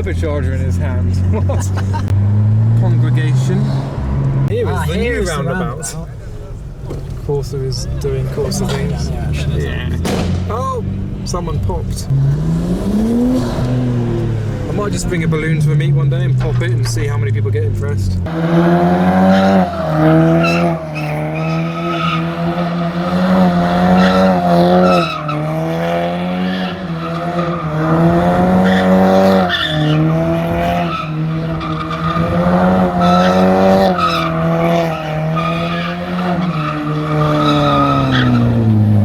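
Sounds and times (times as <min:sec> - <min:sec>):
car engine revving high: 0:00.0 - 0:39.0
tyres squealing: 0:00.0 - 0:39.0.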